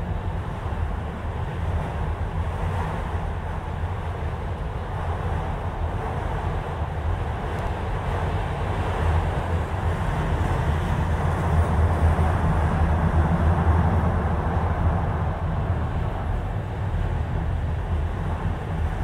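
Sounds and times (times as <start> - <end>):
freight train wheels rumbling on track: 0.0 - 19.0.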